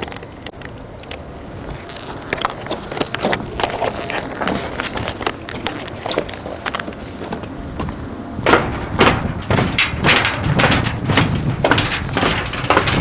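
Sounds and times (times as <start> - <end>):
low rumbling movement noise: 0.0 - 13.0
footsteps on a dock: 1.2 - 13.0.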